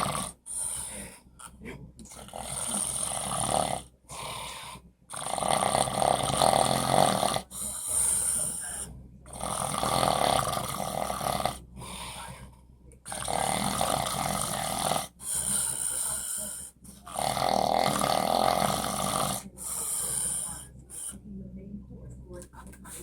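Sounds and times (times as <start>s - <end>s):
man snoring: 0.0s - 1.1s, 2.2s - 12.3s, 13.1s - 20.7s.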